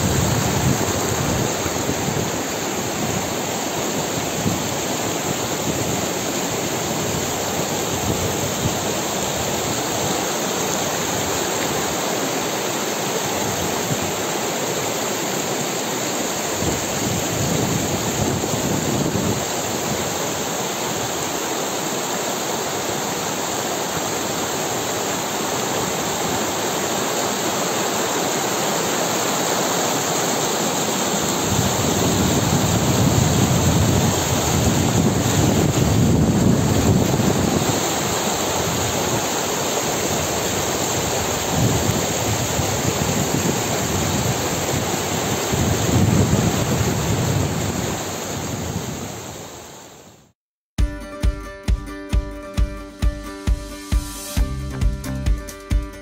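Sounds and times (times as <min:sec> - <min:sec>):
stream rushing over rocks: 0:00.0 - 0:50.3.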